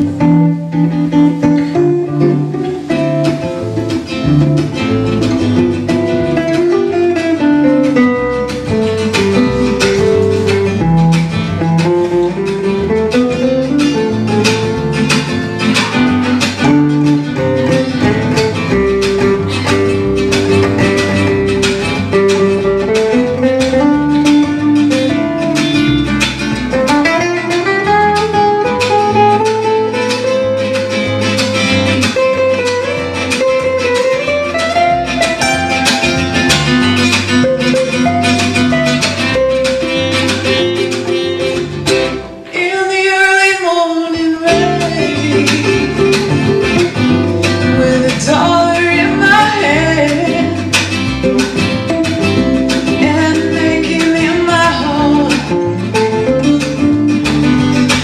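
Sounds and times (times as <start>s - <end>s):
guitar picking melodic lines: 0.0s - 58.0s
guitar strumming chords: 0.0s - 58.0s
upright double bass notes: 0.0s - 58.0s.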